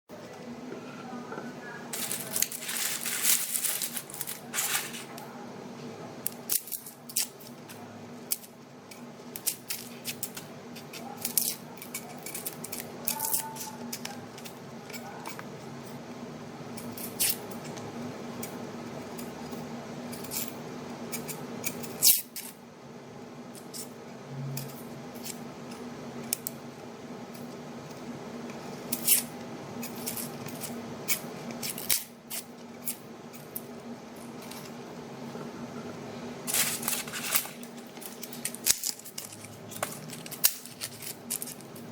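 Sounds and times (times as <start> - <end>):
low steady hum: 0.1 - 41.9.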